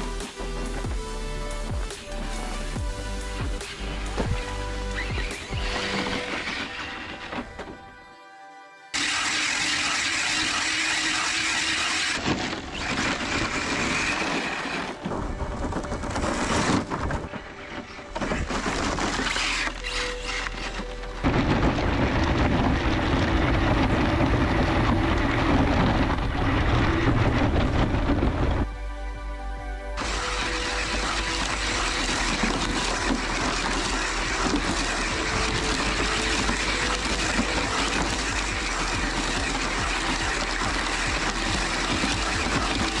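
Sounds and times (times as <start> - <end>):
rc car driving on gravel: 0.0 - 7.7, 8.9 - 28.7, 30.0 - 43.0
background music: 0.0 - 43.0.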